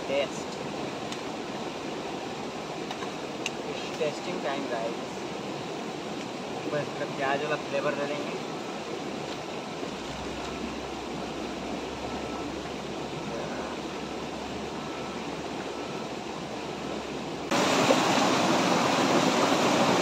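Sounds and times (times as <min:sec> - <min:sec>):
mountain stream rushing: 0:00.0 - 0:20.0
waterfall splashing over rocks: 0:00.0 - 0:20.0.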